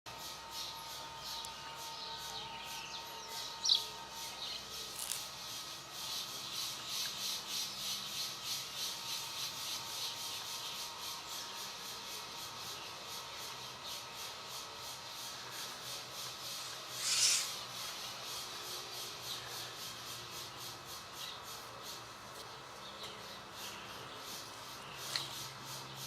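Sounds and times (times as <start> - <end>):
bird chirp: 0.1 - 26.0
insect chorus pulsing: 0.1 - 26.0.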